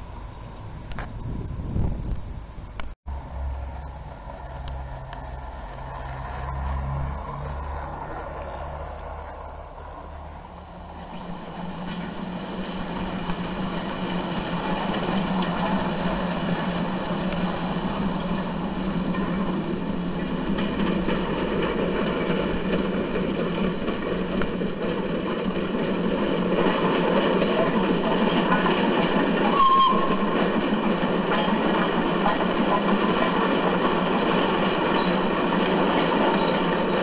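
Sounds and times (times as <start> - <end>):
wheels rumbling on rails: 0.0 - 37.0.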